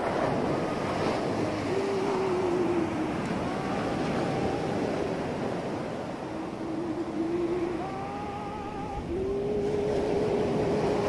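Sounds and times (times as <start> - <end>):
ocean surf: 0.0 - 11.0
faint wavering tone: 1.2 - 11.0.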